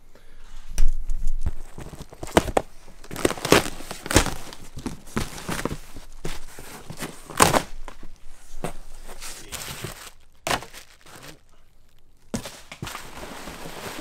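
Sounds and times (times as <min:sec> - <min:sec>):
cardboard box and bubble wrap rustling: 0:01.4 - 0:14.0.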